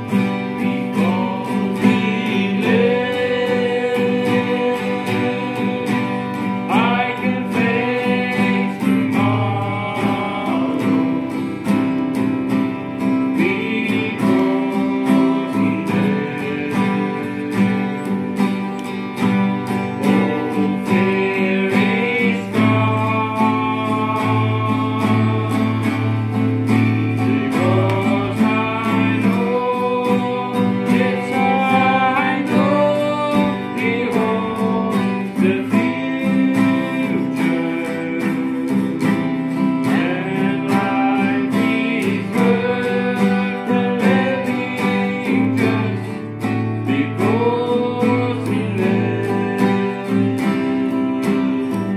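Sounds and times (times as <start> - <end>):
acoustic guitars strummed: 0.0 - 51.9.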